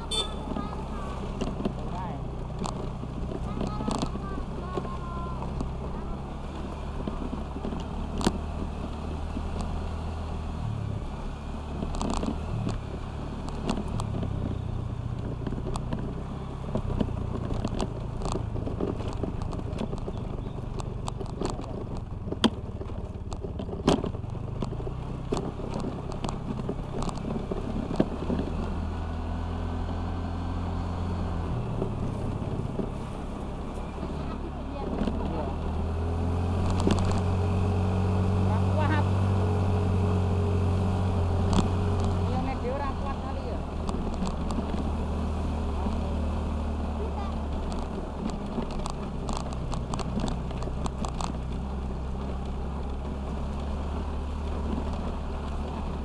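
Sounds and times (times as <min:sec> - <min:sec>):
scooter engine running: 0:00.0 - 0:56.0.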